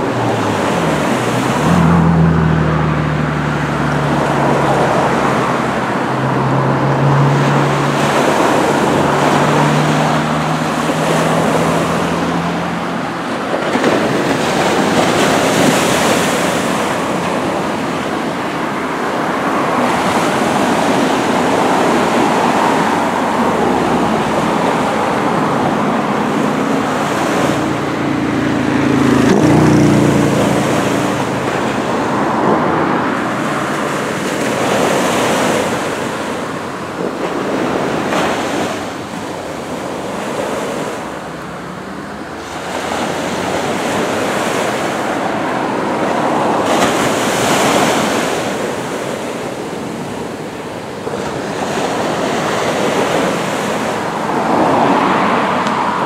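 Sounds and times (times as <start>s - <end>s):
passing vehicle engine hum: 0.0s - 56.0s
surf washing up a beach: 0.0s - 56.0s.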